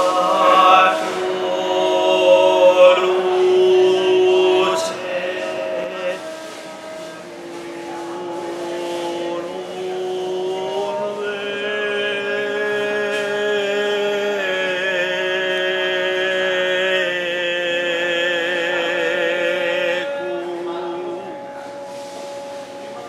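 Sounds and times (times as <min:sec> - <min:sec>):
man singing long held notes: 0:00.0 - 0:23.0.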